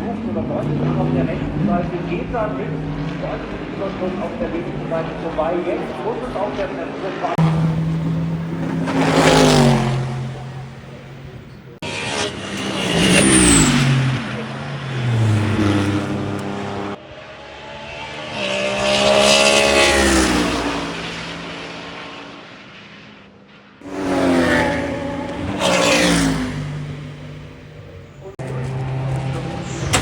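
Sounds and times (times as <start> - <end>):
race cars passing at speed: 0.0 - 30.0.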